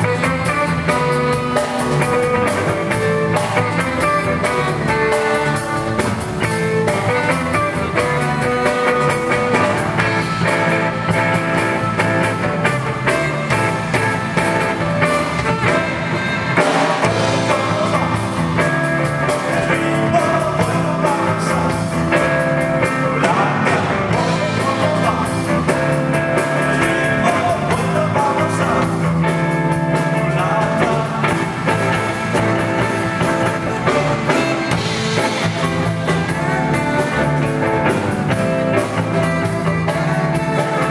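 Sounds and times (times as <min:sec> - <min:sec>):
blues-rock band playing: 0:00.0 - 0:40.9
electric guitar: 0:00.0 - 0:40.9
person singing: 0:00.0 - 0:40.9.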